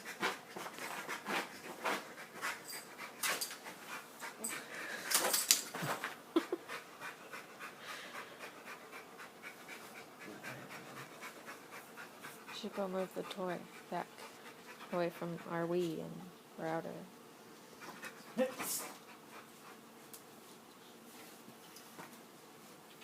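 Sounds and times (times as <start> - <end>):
dog panting: 0.0 - 5.2, 5.8 - 16.4, 17.8 - 21.1.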